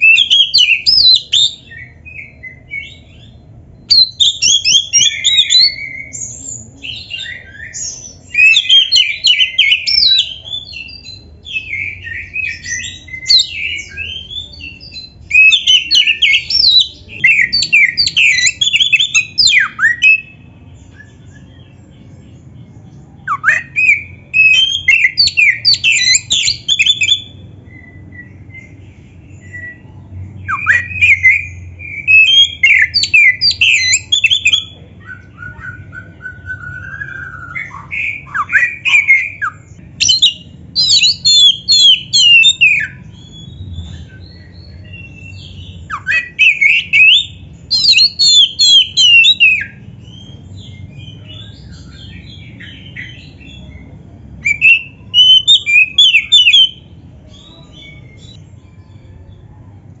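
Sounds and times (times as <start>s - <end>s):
bird singing whistles and trills: 0.0s - 59.5s.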